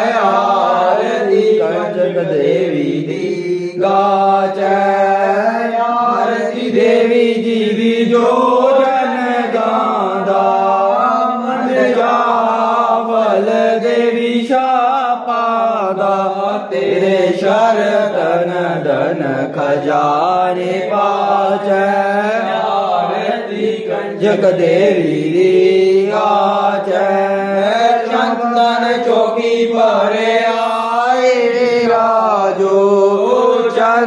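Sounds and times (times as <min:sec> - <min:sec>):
person singing a hymn: 0:00.0 - 0:34.0.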